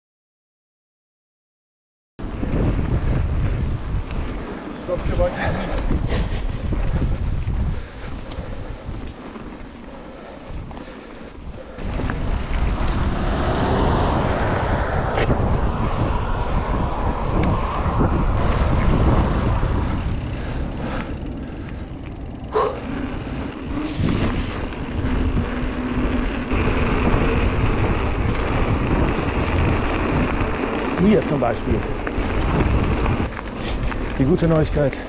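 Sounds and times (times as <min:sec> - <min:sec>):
bike tyres rolling on gravel: 0:02.2 - 0:35.0
wind rushing over microphone: 0:02.2 - 0:35.0.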